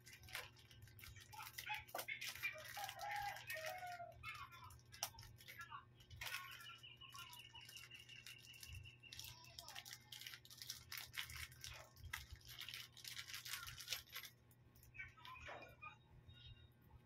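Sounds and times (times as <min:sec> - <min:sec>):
plastic packaging crinkling: 0:00.0 - 0:15.4.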